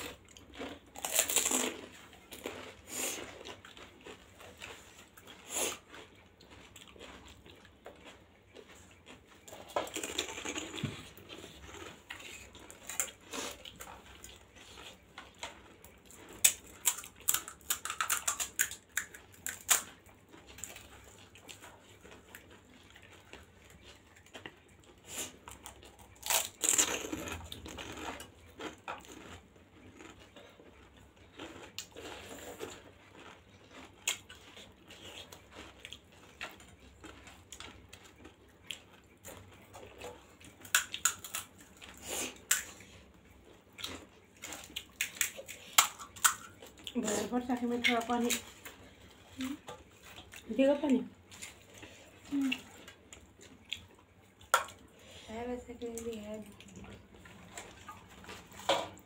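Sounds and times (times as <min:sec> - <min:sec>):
wet chewing and crackling shells: 0:00.0 - 0:59.0.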